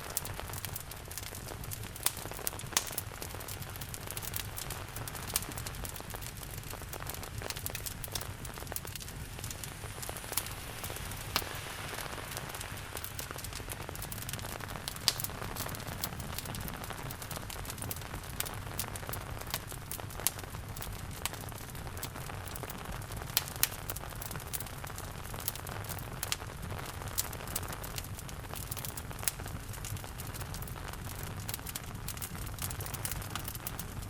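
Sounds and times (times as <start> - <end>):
sharp fire pops: 0.0 - 34.0
steady rain: 0.0 - 34.0
wood fire crackling: 0.0 - 34.0.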